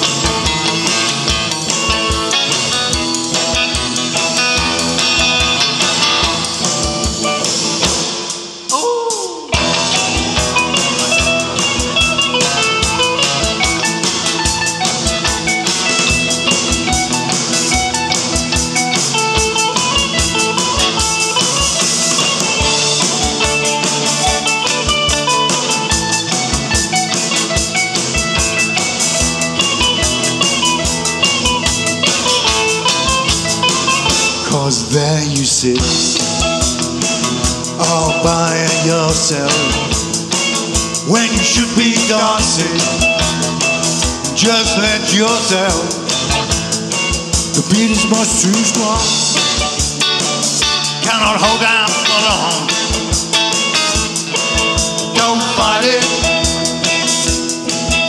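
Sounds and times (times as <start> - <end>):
cigar box guitar: 0.0 - 58.0
drum kit kick-drum beat: 0.0 - 58.0
guitar: 0.0 - 58.0.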